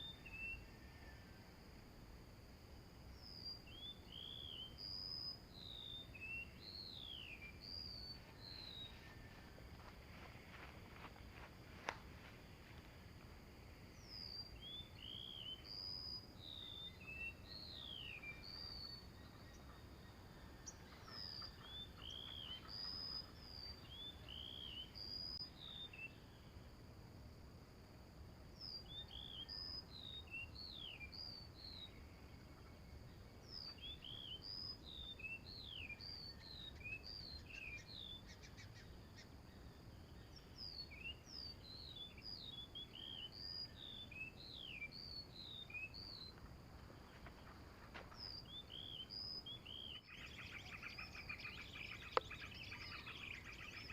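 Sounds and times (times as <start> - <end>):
faint low background noise: 0.0 - 53.9
small birds chirping: 3.1 - 26.5, 28.6 - 53.9.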